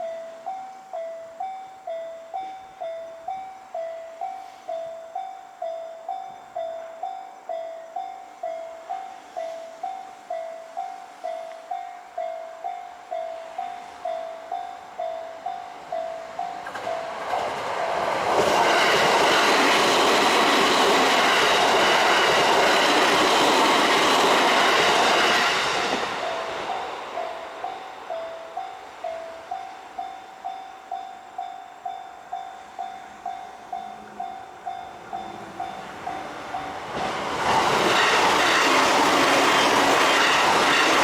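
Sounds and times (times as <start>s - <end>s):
train wheels on rails: 0.0s - 41.0s.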